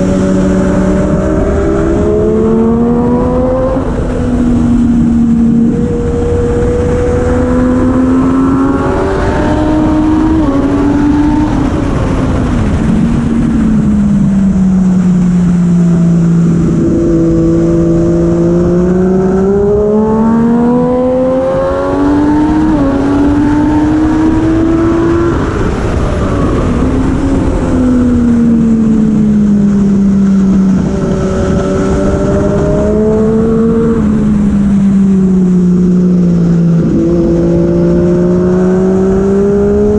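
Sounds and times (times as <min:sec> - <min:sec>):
racing motorcycle engine accelerating: 0:00.0 - 0:39.9
wind and road noise: 0:00.0 - 0:39.9.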